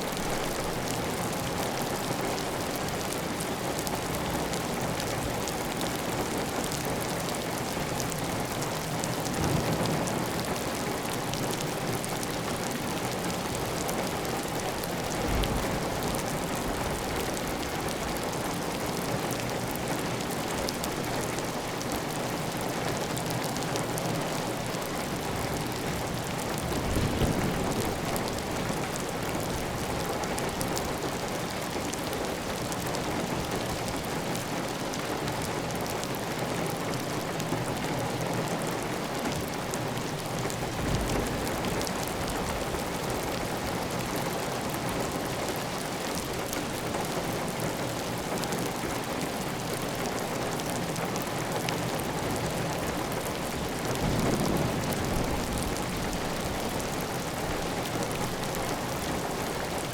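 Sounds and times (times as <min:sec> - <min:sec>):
heavy rain on a tile roof: 0:00.0 - 0:59.9.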